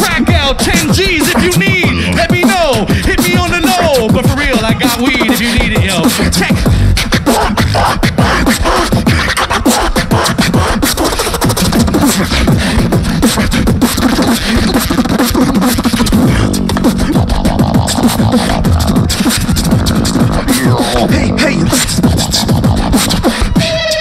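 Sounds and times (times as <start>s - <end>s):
beatboxing through microphone: 0.0s - 24.0s.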